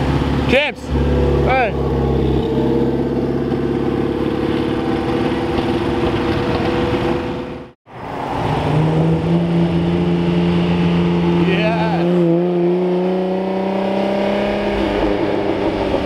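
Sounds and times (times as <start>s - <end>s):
car engine driving away: 0.0s - 16.0s
sports car engine approaching: 0.0s - 16.0s.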